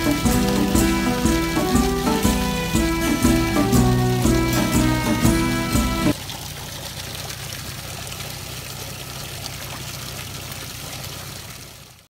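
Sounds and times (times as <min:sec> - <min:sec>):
running water hiss: 0:00.0 - 0:12.0.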